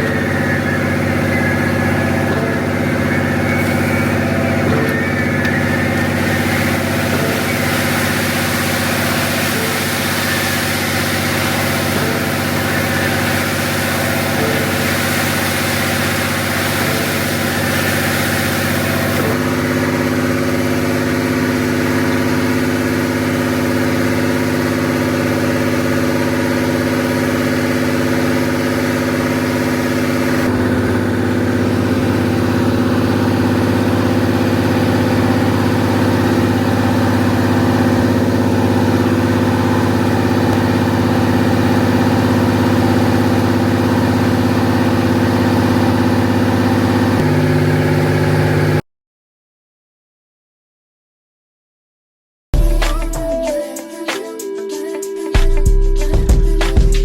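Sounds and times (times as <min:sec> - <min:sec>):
diesel truck engine running: 0:00.0 - 0:48.8.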